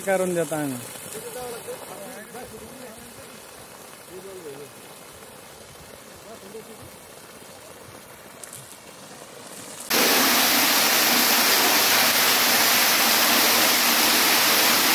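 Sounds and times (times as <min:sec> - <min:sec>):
faint water hiss: 0:00.0 - 0:14.9.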